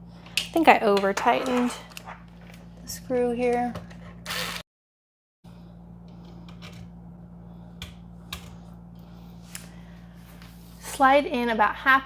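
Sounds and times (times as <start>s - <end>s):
steady low hum: 0.0s - 4.6s, 5.5s - 12.0s.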